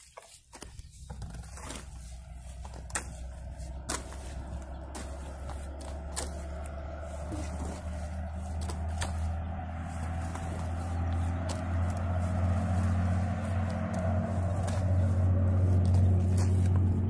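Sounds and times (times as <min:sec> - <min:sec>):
hoe scraping wet mud: 0:00.0 - 0:17.0
low engine hum: 0:00.4 - 0:17.0.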